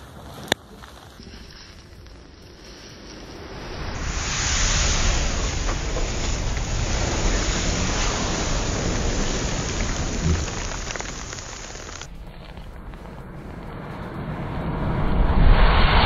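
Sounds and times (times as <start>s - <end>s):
matches burning in a fireball: 1.2s - 14.1s.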